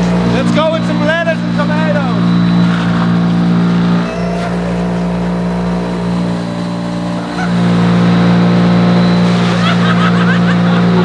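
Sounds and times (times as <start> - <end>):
wood chipper engine shredding: 0.0 - 11.0.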